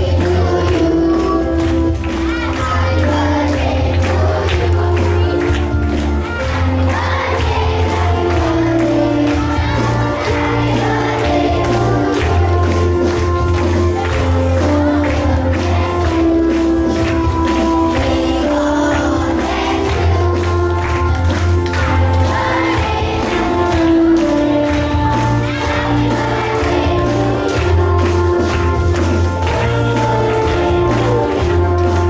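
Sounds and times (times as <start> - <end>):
music with bass line and beat: 0.0 - 32.0.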